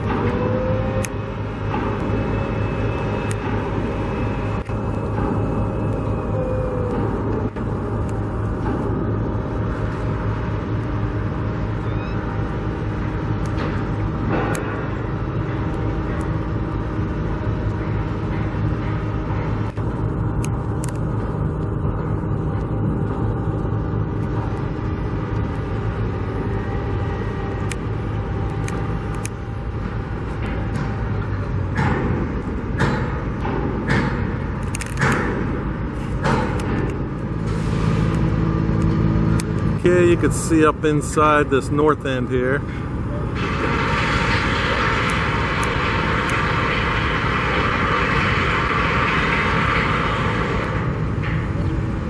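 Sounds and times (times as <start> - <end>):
vehicle engines rumbling: 0.0 - 52.0.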